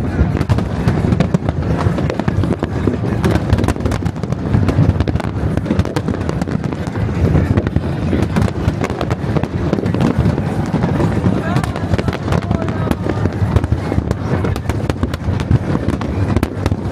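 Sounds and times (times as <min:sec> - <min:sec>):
fireworks bangs and crackles: 0:00.0 - 0:16.9.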